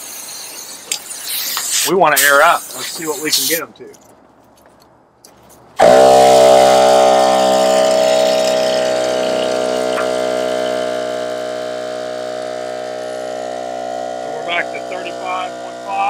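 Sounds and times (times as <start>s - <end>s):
electric air compressor running: 0.0s - 3.6s, 5.8s - 16.0s.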